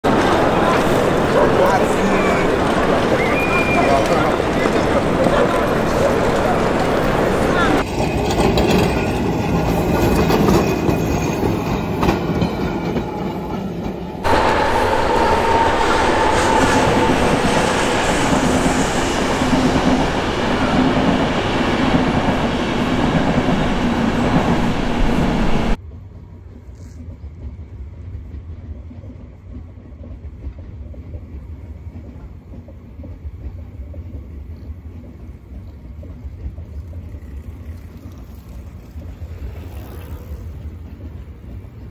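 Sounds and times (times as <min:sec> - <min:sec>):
distant train low rumble: 0:00.0 - 0:41.9
train passing by: 0:00.0 - 0:41.9.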